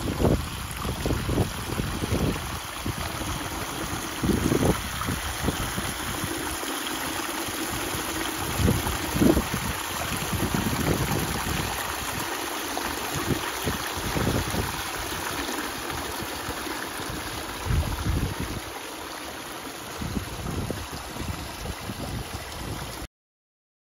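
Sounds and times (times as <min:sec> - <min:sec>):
wind rumble on microphone: 0:00.0 - 0:06.4, 0:07.7 - 0:12.3, 0:13.1 - 0:18.7, 0:19.9 - 0:23.1
waterfall splashing over rocks: 0:00.0 - 0:23.1.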